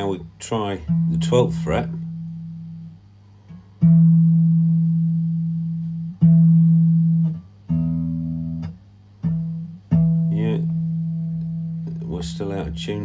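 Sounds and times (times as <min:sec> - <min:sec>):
electric guitar notes ringing: 0:00.0 - 0:13.0.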